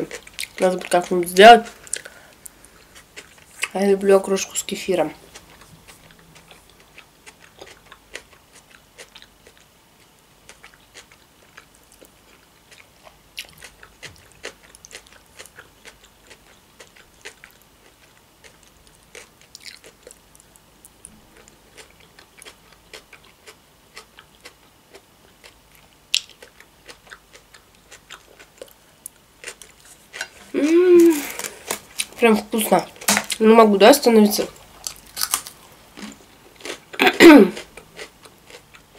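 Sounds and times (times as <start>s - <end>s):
person chewing food: 0.0s - 1.0s, 1.7s - 3.8s, 5.2s - 32.3s, 34.5s - 38.9s.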